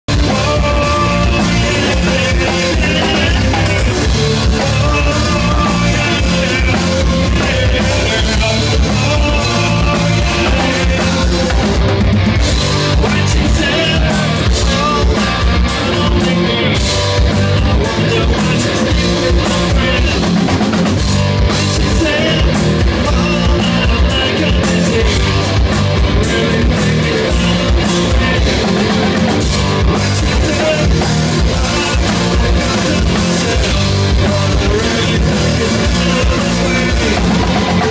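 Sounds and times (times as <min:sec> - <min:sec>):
rock band playing loudly: 0:00.0 - 0:37.9
drums and cymbals striking: 0:00.1 - 0:37.9.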